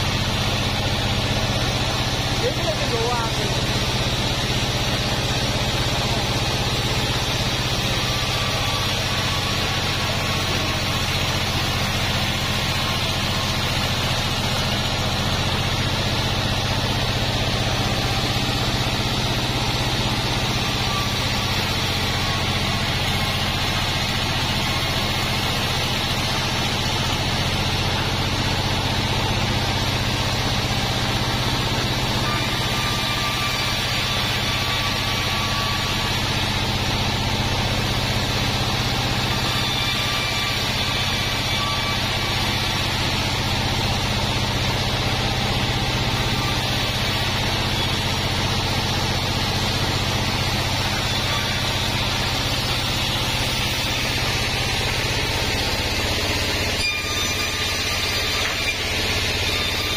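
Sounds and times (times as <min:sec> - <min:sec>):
band sawmill cutting log: 0:00.0 - 0:59.9.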